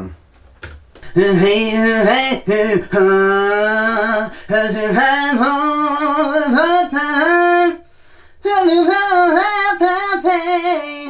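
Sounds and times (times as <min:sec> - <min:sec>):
man singing wordless vocal: 0:01.0 - 0:11.0.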